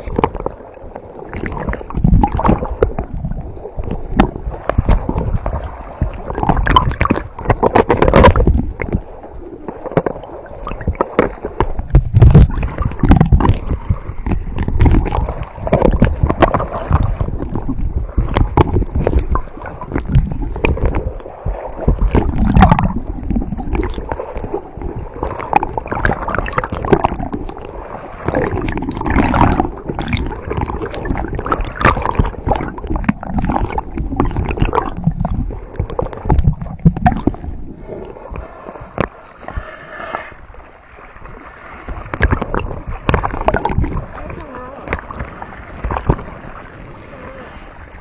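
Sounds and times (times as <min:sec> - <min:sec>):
water sloshing and gurgling: 0:00.0 - 0:48.0
water splashes: 0:00.0 - 0:48.0.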